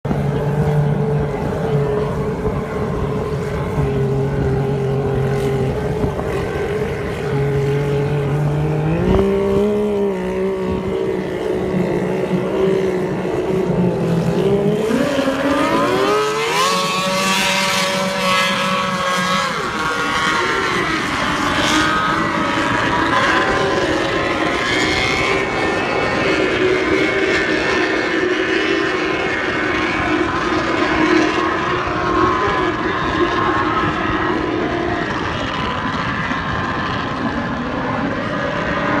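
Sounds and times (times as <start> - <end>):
raceboat engines: 0.0 - 39.0.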